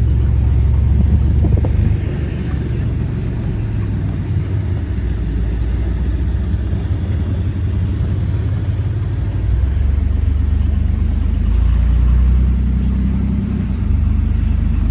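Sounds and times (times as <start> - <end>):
car driving rumble: 0.0 - 14.9.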